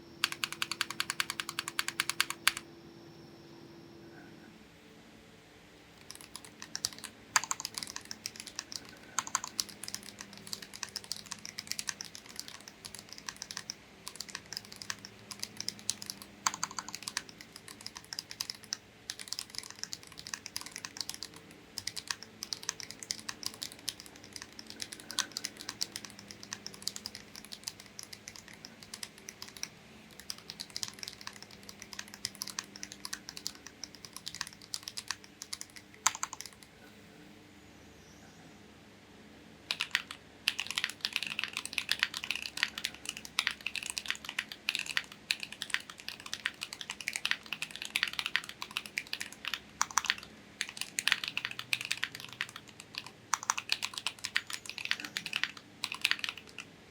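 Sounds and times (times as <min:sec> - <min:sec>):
mechanical keyboard typing: 0:00.2 - 0:02.6, 0:06.0 - 0:36.7, 0:39.7 - 0:56.8.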